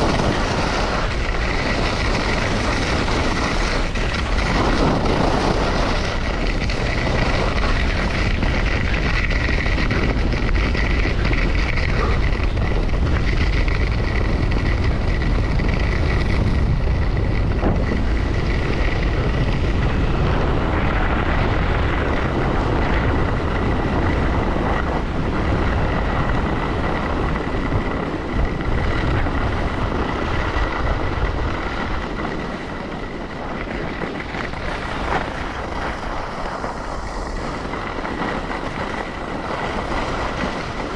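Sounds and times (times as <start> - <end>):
skis scraping over snow: 0.0 - 40.9
wind buffeting microphone: 0.0 - 40.9.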